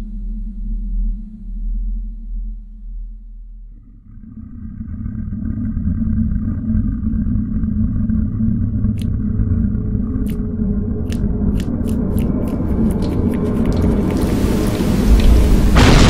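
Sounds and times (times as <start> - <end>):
deep rumble: 0.0 - 16.0.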